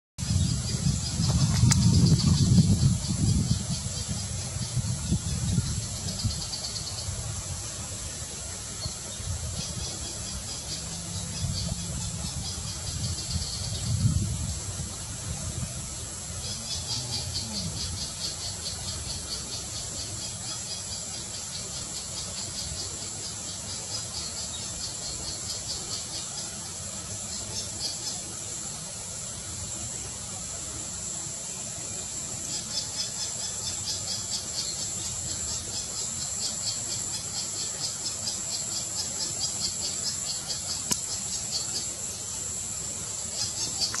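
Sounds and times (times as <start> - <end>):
insects pulsing buzz: 0.2 - 44.0.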